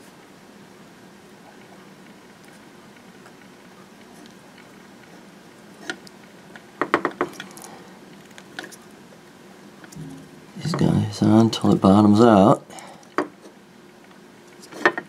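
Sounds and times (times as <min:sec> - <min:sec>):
low steady hum: 0:00.0 - 0:14.7.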